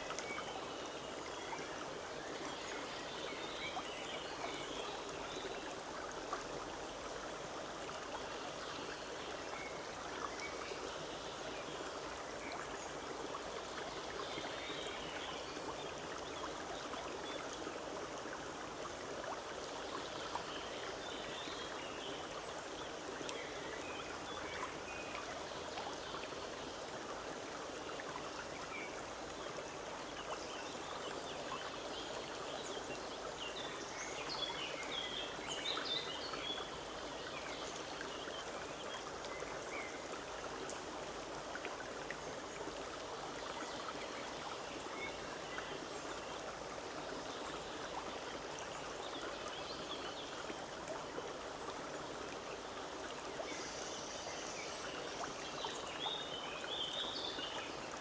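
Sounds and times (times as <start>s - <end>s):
brook trickling over stones: 0.0s - 58.0s.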